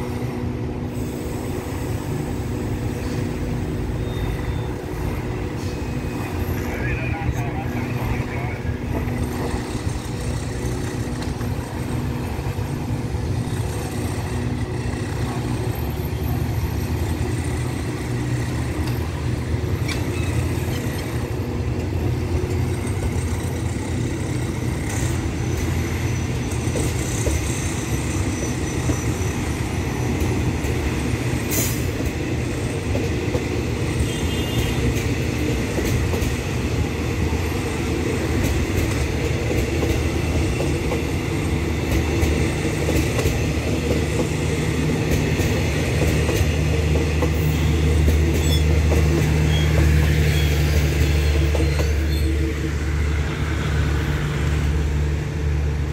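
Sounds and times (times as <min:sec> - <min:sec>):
train rumbling: 0:00.0 - 0:55.9.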